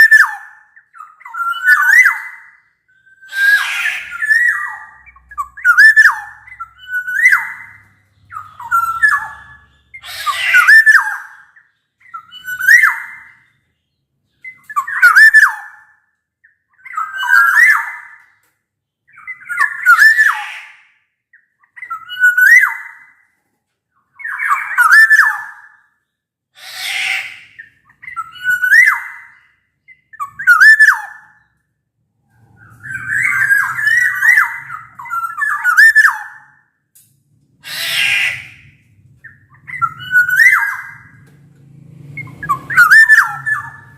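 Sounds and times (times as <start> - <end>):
bird singing whistled phrases: 0.0 - 13.6, 14.3 - 18.2, 19.1 - 20.8, 21.4 - 23.2, 24.2 - 25.9, 26.9 - 31.6, 32.5 - 36.6, 37.7 - 41.2, 42.2 - 43.9.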